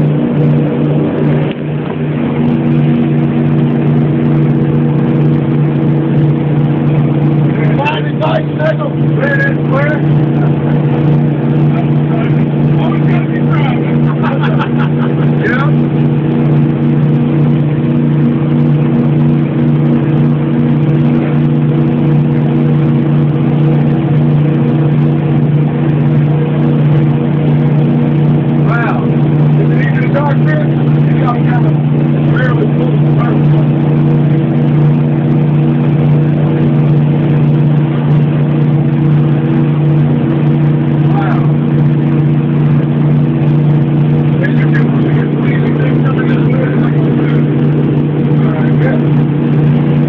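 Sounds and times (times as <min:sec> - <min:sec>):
motorboat engine humming: 0:00.0 - 0:50.0
rush of wind and water: 0:00.0 - 0:50.0.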